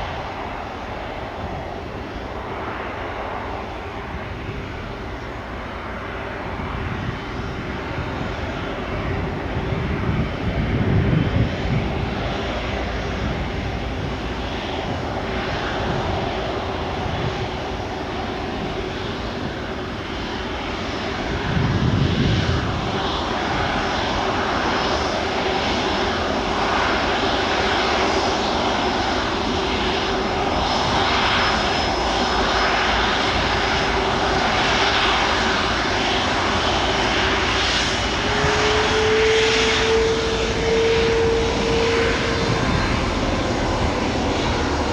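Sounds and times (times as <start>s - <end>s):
jet airliner taking off: 0.0s - 44.9s.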